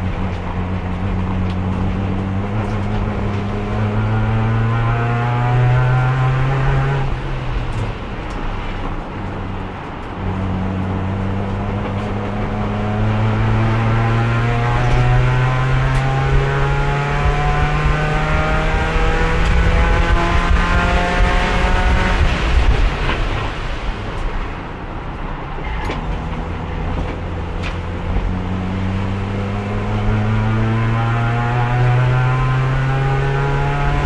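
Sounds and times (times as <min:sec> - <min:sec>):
race car engine: 0:00.0 - 0:34.0.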